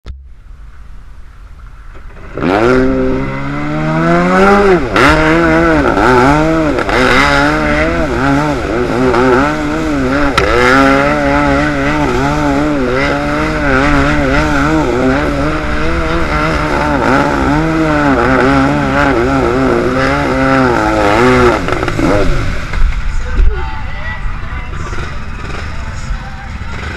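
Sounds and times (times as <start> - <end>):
jet ski engine revving: 2.1 - 26.9.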